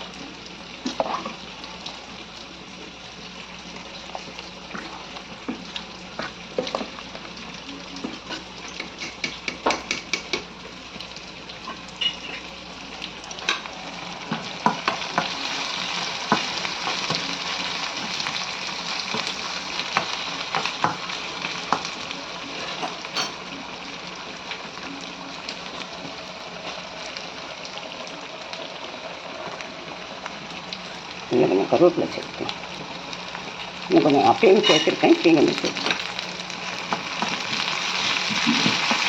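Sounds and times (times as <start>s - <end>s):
food sizzling in oil: 0.0s - 39.0s.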